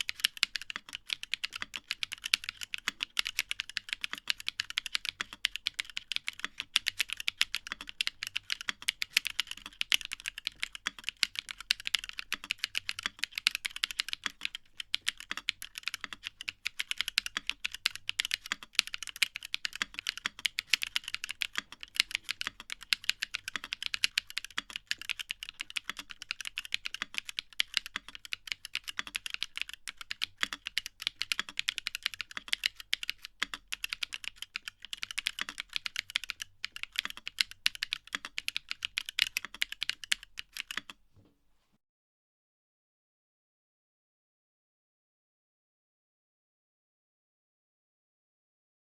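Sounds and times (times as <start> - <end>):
fast typing on mechanical keyboard: 0.0 - 41.0.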